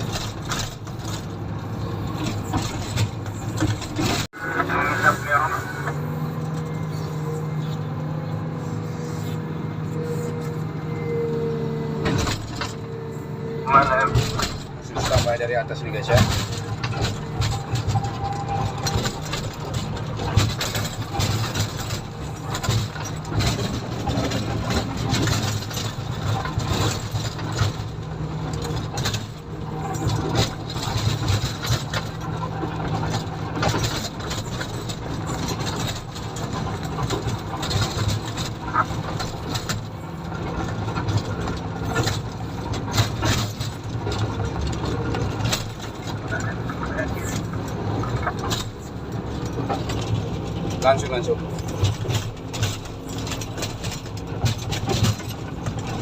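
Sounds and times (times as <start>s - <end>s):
rattles and knocks: 0.0s - 4.3s, 12.0s - 13.0s, 13.7s - 56.0s
diesel engine running: 0.0s - 56.0s.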